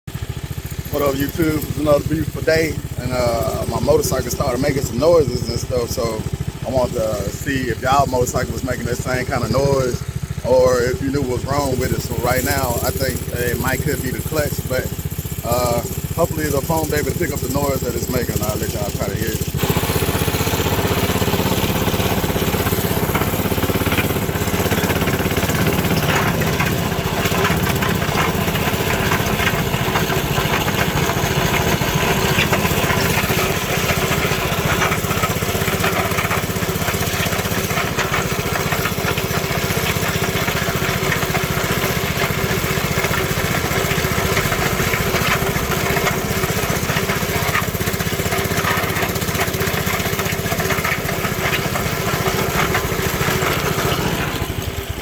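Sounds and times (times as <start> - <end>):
mini bike engine running: 0.1 - 55.0
odd mechanical noise: 0.1 - 55.0.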